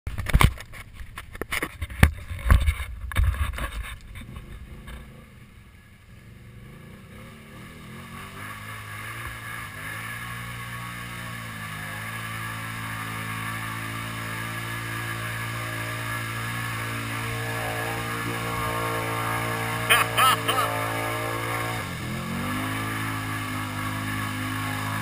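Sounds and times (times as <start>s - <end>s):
atv engine revving: 4.1s - 25.0s.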